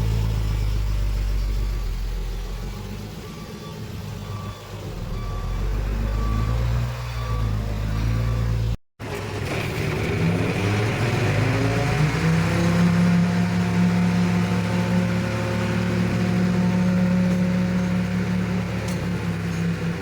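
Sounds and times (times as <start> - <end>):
diesel engine revving under load: 0.0 - 20.0.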